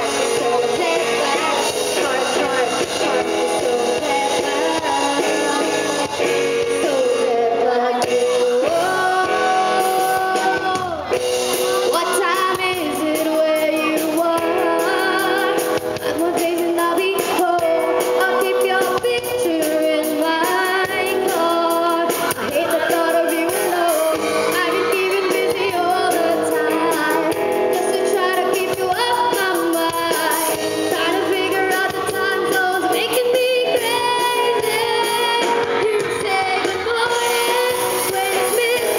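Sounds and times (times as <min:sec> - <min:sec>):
person singing: 0:00.0 - 0:38.9
rock band playing: 0:00.0 - 0:38.9.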